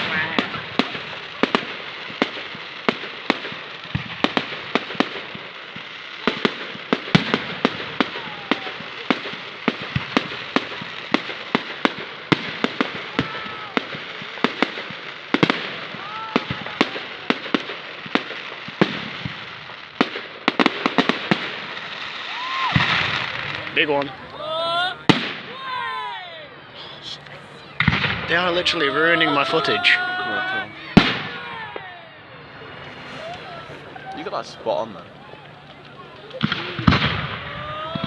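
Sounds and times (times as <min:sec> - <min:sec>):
firework whistling: 0:00.0 - 0:38.0
fireworks crackling: 0:00.0 - 0:38.0.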